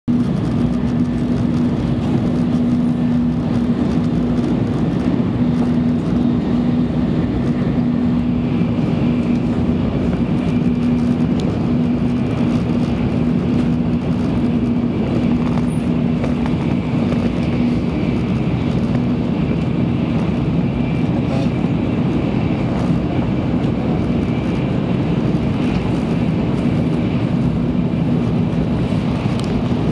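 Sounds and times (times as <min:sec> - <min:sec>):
train cabin rumble: 0:00.1 - 0:29.9.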